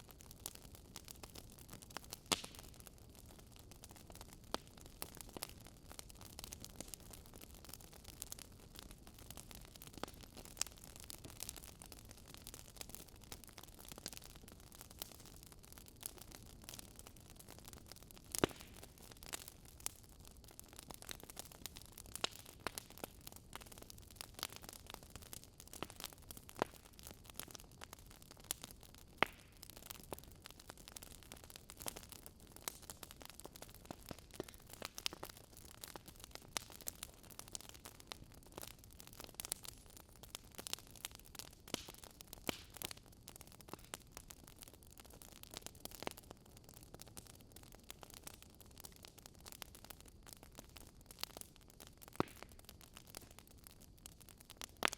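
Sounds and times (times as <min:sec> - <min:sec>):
faint steady hiss: 0:00.0 - 0:44.8
wood fire crackling: 0:00.0 - 0:54.9.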